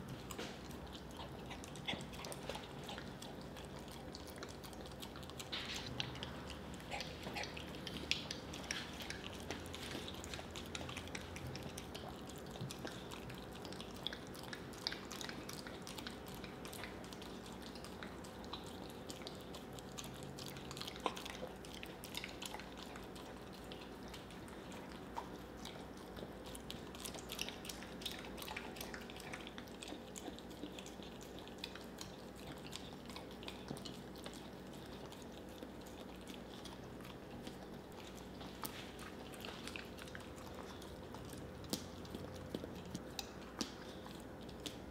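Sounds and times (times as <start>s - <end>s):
dog chewing and lip smacking: 0.0s - 44.9s.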